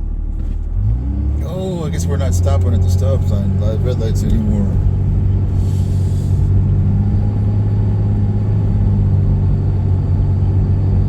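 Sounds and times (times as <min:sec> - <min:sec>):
car interior engine and road rumble: 0:00.0 - 0:11.0.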